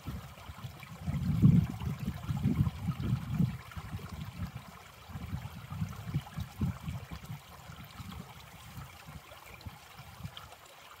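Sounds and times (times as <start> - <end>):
creek trickling and gurgling: 0.0 - 11.0.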